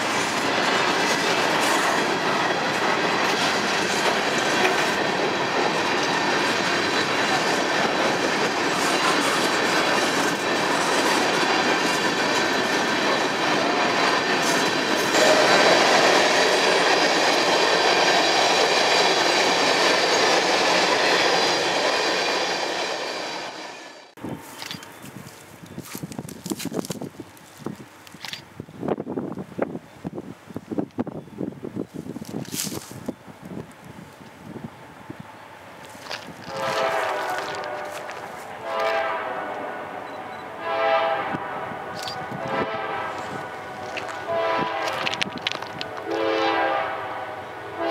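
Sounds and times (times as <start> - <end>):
train wheels rushing on rail: 0.0 - 47.9.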